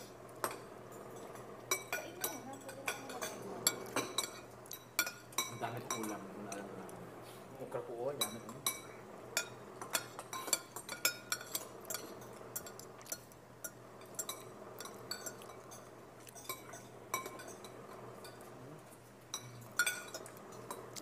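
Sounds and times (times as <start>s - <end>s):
cutlery clinking against a pot: 0.4s - 6.8s, 8.2s - 21.0s.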